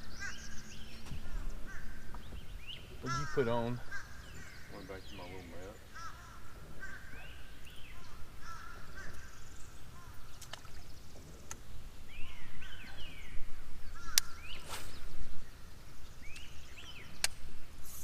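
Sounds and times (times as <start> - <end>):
birds calling: 0.0 - 17.5.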